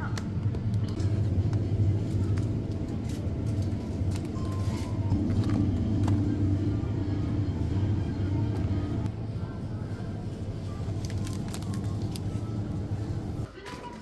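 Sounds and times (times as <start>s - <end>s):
refrigerator hum: 0.0s - 13.5s.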